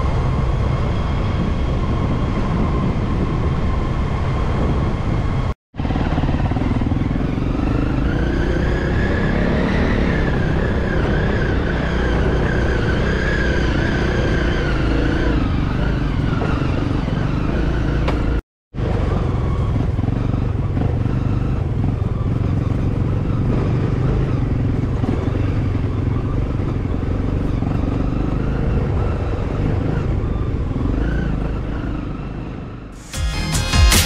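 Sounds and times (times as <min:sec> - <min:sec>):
dirt bike engine running: 0:05.8 - 0:12.7, 0:13.4 - 0:34.0.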